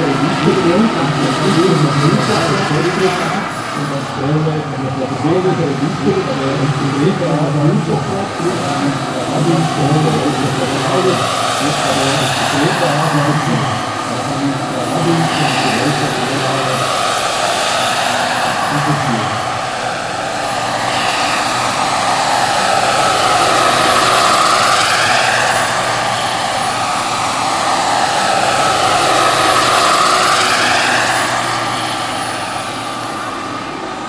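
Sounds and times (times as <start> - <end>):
helicopter rotor noise: 0.0 - 34.0
model helicopter turbine whine: 0.0 - 34.0.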